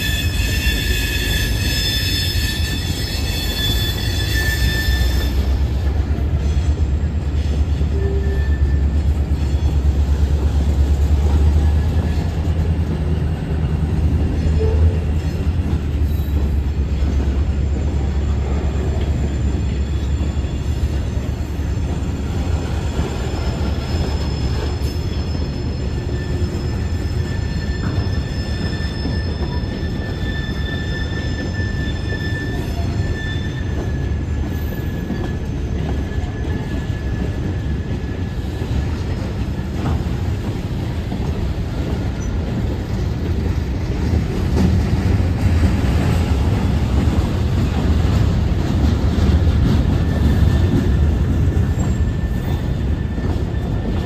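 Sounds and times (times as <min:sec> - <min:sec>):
high wheel squeals: 0:00.0 - 0:54.0
steel wheels rumbling on rail: 0:00.0 - 0:54.0.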